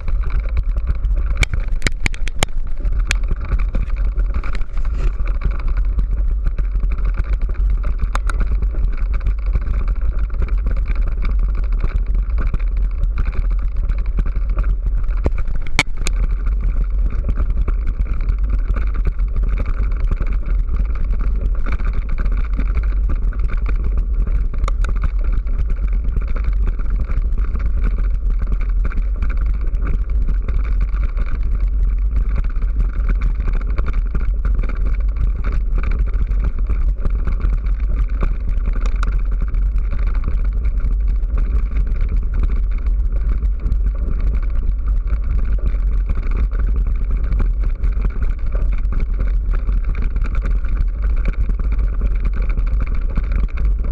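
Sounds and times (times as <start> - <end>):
tyres crunching on loose stones: 0.0 - 53.9
wind rumble on microphone: 0.0 - 53.9.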